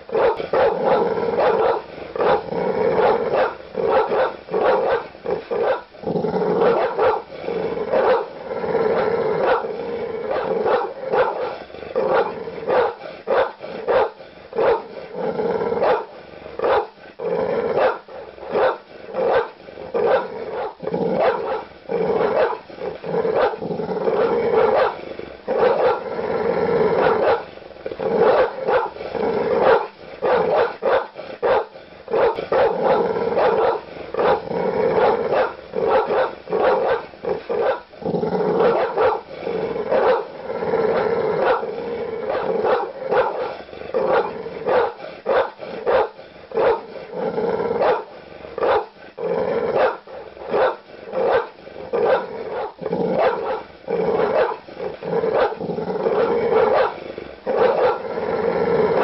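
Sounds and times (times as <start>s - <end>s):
large dog barking aggressively: 0.0s - 59.0s.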